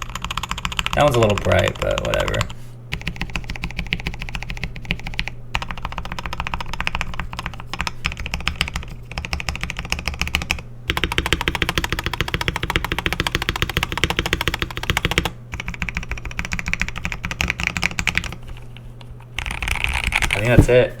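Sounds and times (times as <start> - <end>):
typing on mechanical keyboard: 0.0 - 18.4, 19.4 - 20.5.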